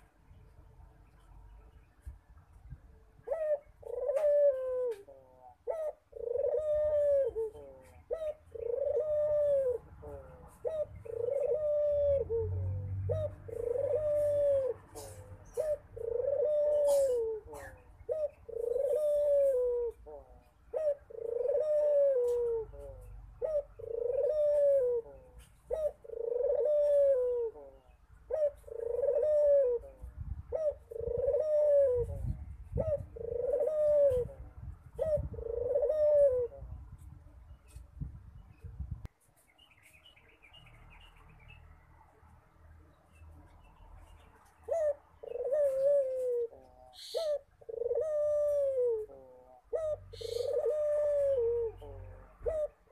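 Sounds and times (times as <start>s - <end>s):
dove cooing: 2.9s - 37.8s, 44.4s - 52.9s.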